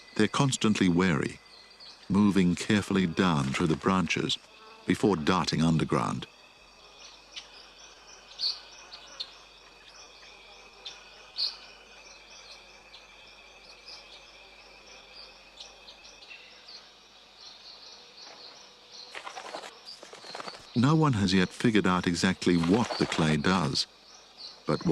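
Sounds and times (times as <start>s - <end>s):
insects buzzing: 0.0s - 24.9s.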